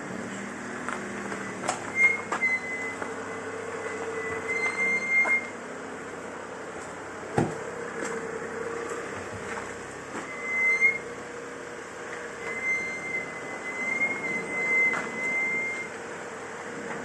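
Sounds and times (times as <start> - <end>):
brakes squealing: 0.0 - 17.0.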